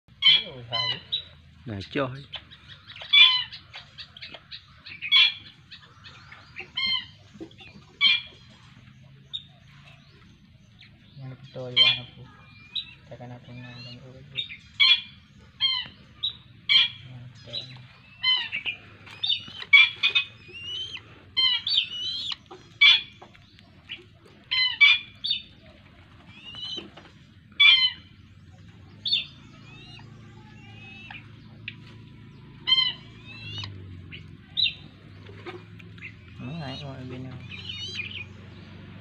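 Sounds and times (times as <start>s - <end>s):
bird chick begging calls: 0.1s - 38.7s.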